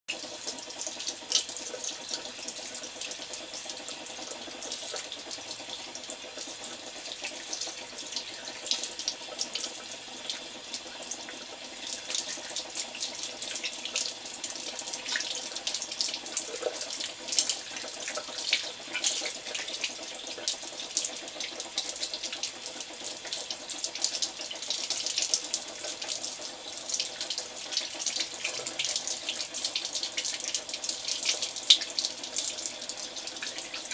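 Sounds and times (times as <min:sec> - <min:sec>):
tap water splashing into washbasin: 0:00.1 - 0:33.9.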